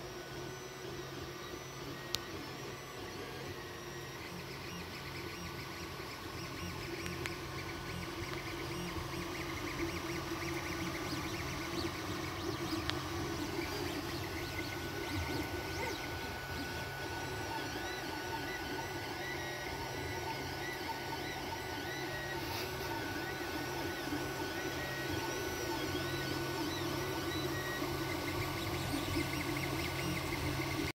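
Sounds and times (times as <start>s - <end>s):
cooling fans humming: 0.0s - 30.9s
stepper motors whirring: 0.2s - 30.9s.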